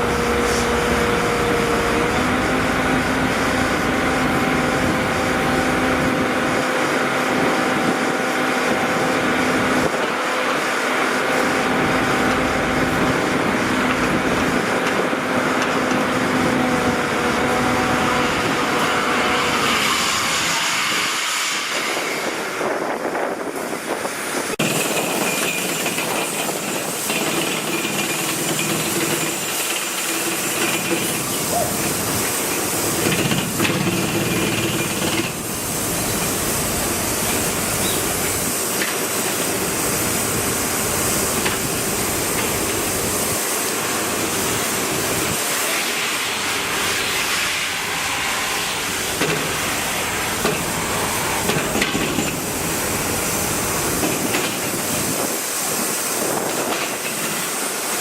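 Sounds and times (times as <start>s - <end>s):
construction machinery engine drone: 0.0s - 58.0s.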